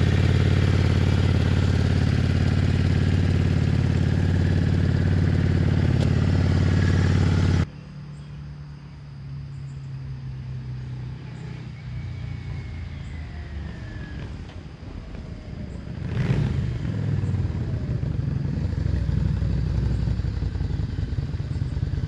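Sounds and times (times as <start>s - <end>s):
motorcycle engine running up close: 0.0s - 7.7s, 11.2s - 22.0s
distant motorcycle engine riding: 0.0s - 22.0s.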